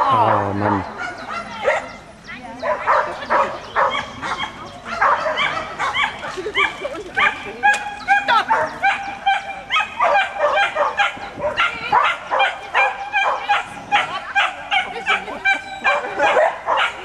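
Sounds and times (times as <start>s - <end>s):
dog barking: 0.2s - 2.0s, 2.6s - 17.0s.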